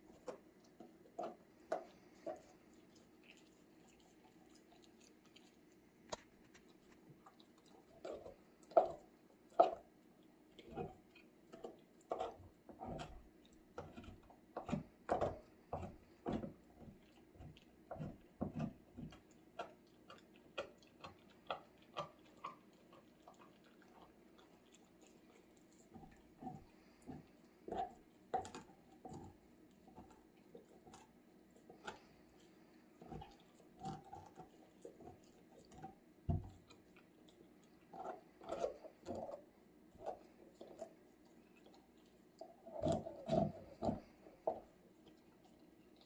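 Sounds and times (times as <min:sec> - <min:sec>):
dog gnawing and licking bone: 0:00.0 - 0:46.0.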